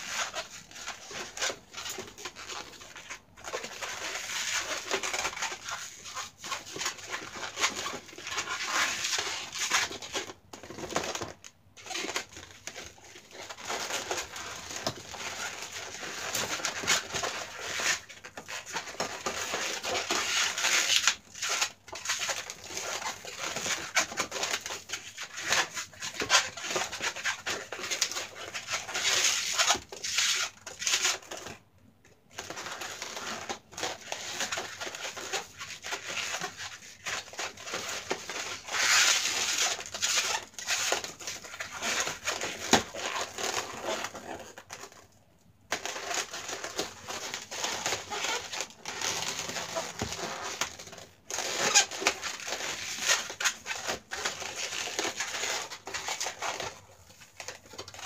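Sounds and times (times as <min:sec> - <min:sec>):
balloons squeaking and rubbing: 0:00.0 - 0:31.6, 0:32.3 - 0:45.0, 0:45.7 - 0:58.0.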